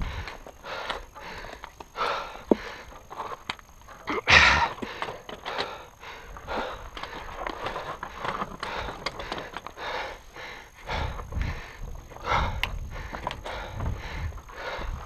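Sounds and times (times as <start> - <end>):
bike tyres crunching on rocky trail: 0.0 - 15.0.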